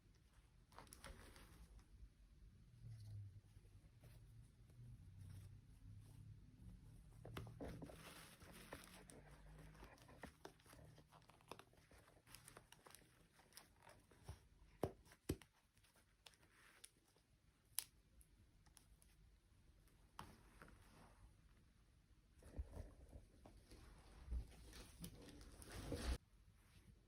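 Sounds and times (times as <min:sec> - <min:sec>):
soft rustling and crinkling: 0:00.0 - 0:27.0.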